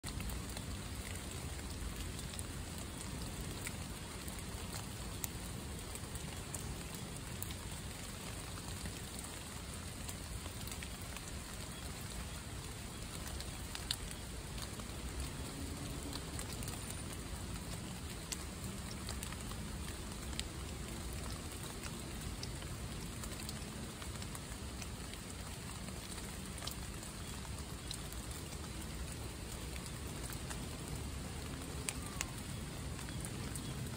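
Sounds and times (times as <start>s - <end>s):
rain falling on leaf litter: 0.0s - 33.9s.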